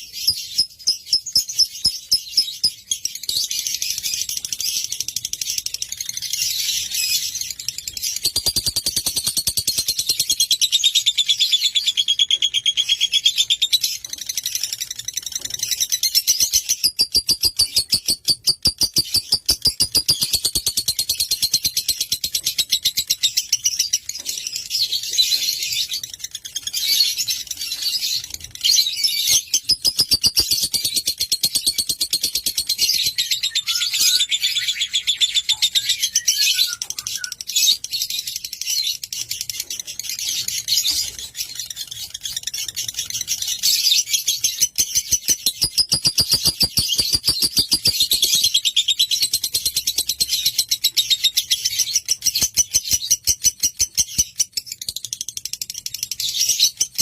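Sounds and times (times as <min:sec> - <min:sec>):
lovebird chirping rapidly: 0:00.0 - 0:24.1, 0:25.1 - 0:54.8.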